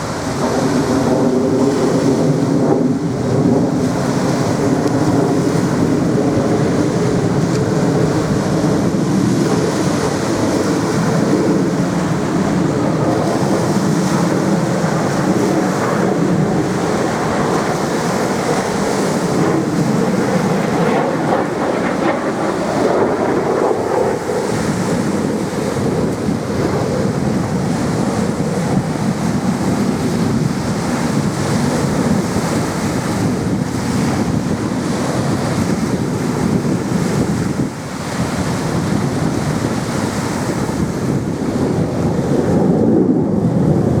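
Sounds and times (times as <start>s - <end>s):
jets rushing overhead: 0.0s - 44.0s.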